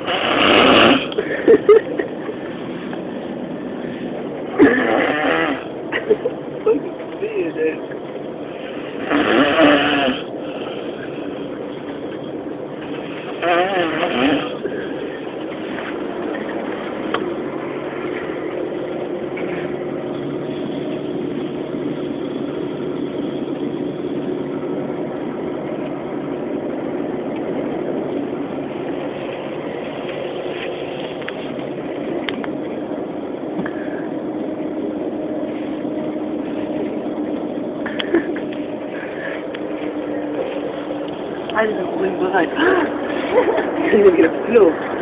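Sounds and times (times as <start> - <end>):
vehicle engine and road drone: 0.0 - 45.0.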